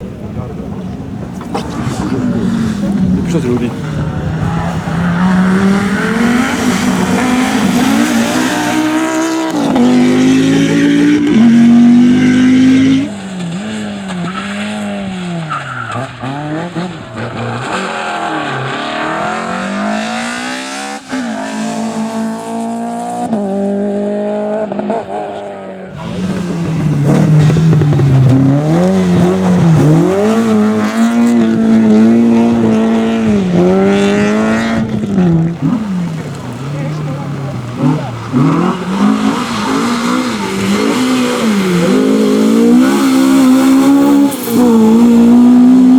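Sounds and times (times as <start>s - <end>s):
rally car engines at full throttle: 0.0s - 45.9s.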